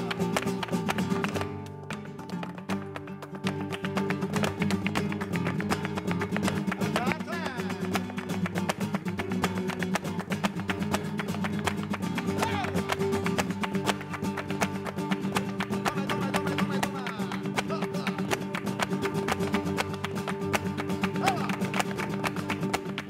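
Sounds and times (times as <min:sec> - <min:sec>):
dancer's footwork strikes: 0:00.0 - 0:23.0
flamenco guitar playing: 0:00.0 - 0:23.0.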